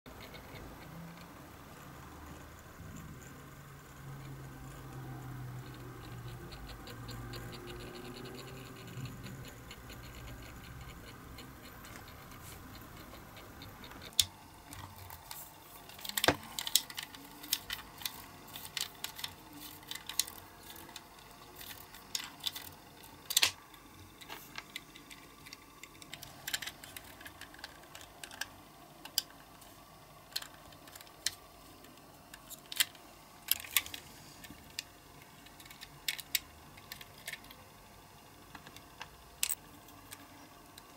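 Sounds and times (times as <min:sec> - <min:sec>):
faint steady hum: 0:00.1 - 0:40.9.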